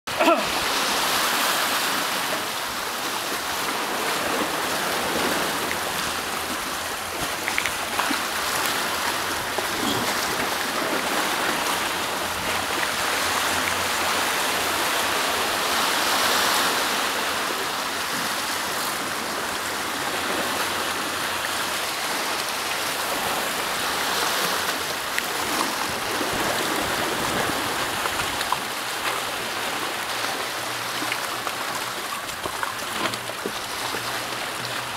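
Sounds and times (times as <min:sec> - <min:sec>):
sea surf splashing over rocks: 0:00.1 - 0:34.9.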